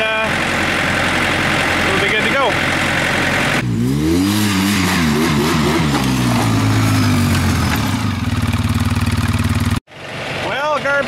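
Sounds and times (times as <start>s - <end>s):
backhoe engine running: 0.0s - 4.1s, 4.7s - 11.0s
quad engine revving and idling: 0.0s - 11.0s.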